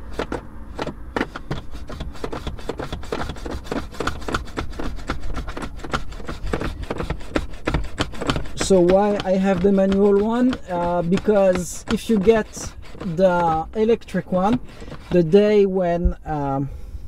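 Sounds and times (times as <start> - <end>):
clicks and rubbing of handled objects: 0.0 - 15.6.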